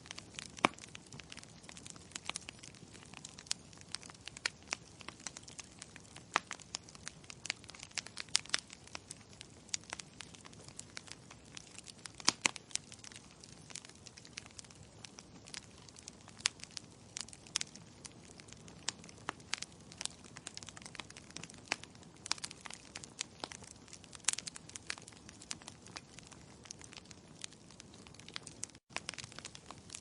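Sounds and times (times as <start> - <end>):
logs crackling and popping: 0.0 - 30.0
low rush of flames: 0.0 - 30.0.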